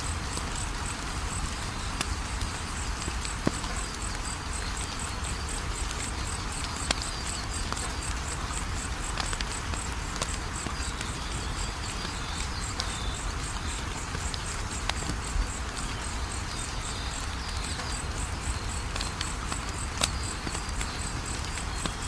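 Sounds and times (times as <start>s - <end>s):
insect chirping: 0.0s - 22.0s
wood fire crackling and popping: 0.0s - 22.0s.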